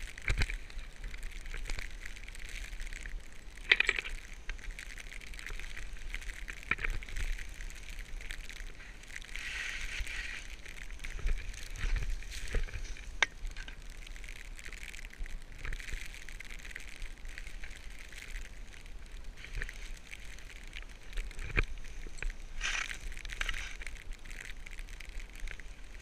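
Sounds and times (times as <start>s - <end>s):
skis scraping over snow: 0.0s - 14.4s, 15.8s - 26.0s.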